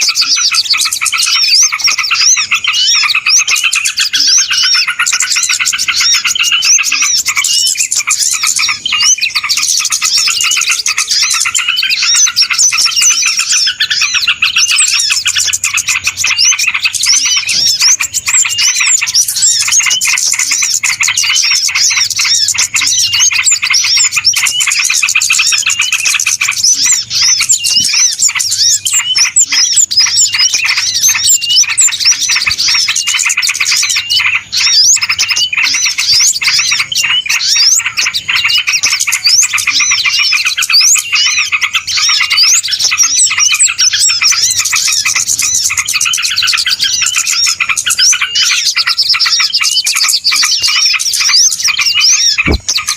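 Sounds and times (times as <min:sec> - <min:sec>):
small birds chirping and twittering: 0:00.0 - 0:52.9.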